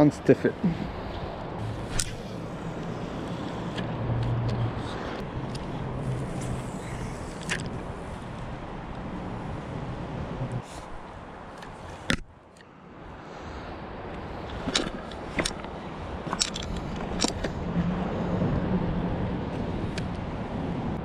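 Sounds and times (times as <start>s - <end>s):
rushing water and air: 0.0s - 21.0s.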